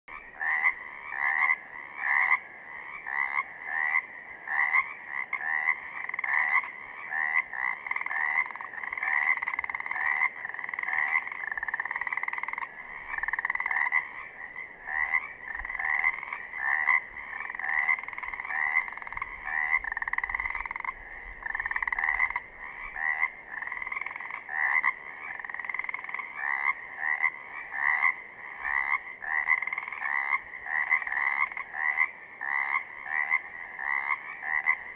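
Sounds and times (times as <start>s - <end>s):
frogs croaking in chorus: 0.1s - 34.9s.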